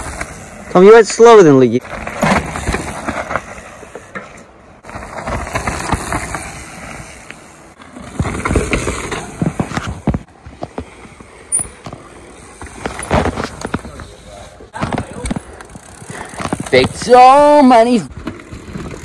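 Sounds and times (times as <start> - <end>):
bike tyres rolling over dirt: 0.0 - 19.0
bike rattling over bumps: 1.6 - 19.0.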